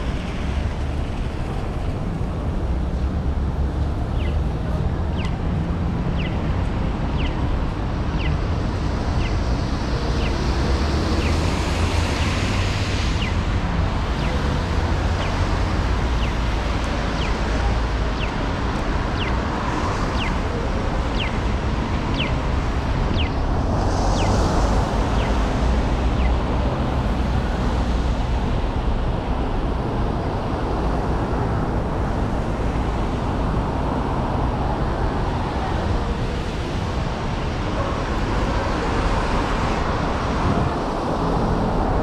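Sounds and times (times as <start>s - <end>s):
traffic on wet roads: 0.0s - 42.0s.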